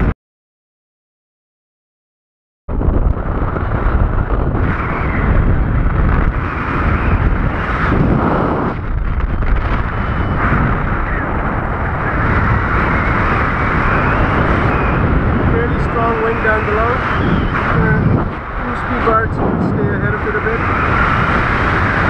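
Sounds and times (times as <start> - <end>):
wind noise on microphone: 2.7 - 22.0.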